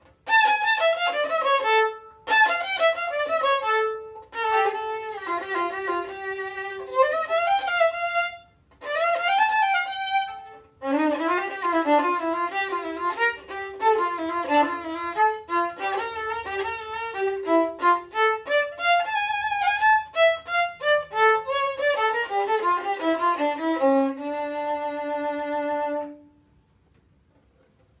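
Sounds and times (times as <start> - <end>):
solo violin melody: 0.0 - 26.5.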